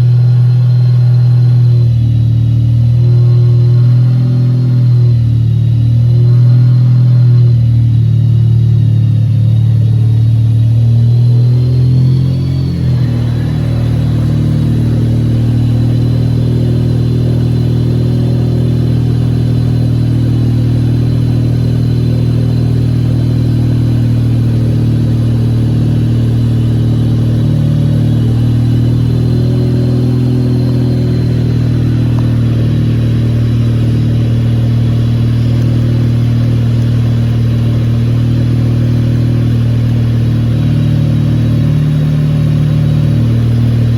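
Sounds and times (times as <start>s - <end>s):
faint high whine: 0.0s - 43.9s
rotary engine running: 0.0s - 43.9s.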